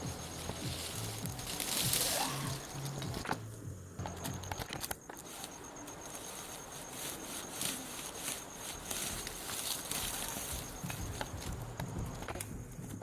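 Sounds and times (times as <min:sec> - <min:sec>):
dry grass rustling and crackling: 0:00.0 - 0:13.0.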